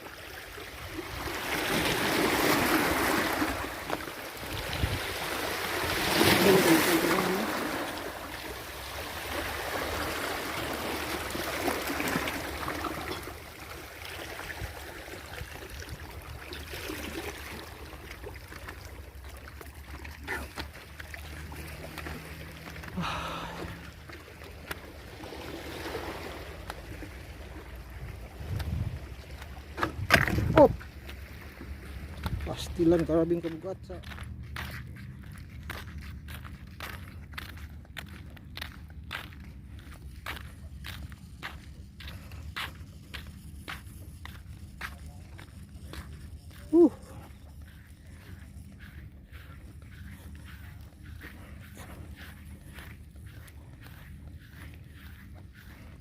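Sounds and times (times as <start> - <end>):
water splashing and sloshing: 0.0 - 56.0.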